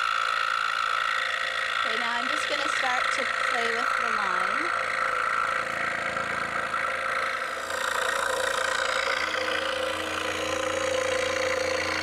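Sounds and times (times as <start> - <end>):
scroll saw cutting wood: 0.0 - 12.0.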